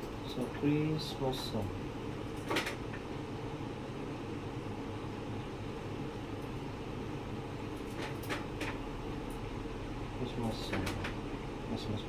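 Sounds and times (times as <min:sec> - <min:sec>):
room noise hum and hiss: 0:00.0 - 0:12.0.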